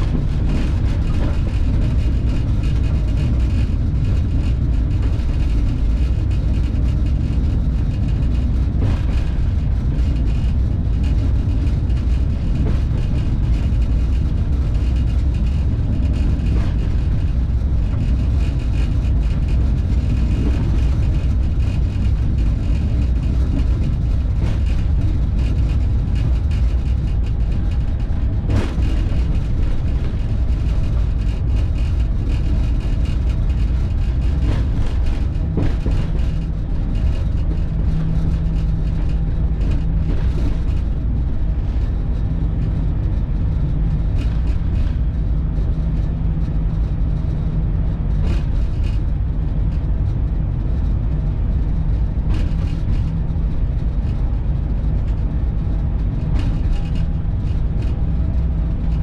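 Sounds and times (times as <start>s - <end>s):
locomotive rumble on track: 0.0s - 59.0s.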